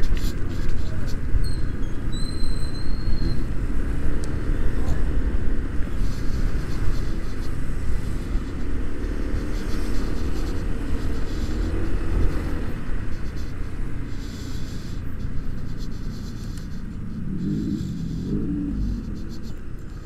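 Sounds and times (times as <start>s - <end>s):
wind and road noise rumble: 0.0s - 20.0s
scooter engine running: 2.8s - 20.0s.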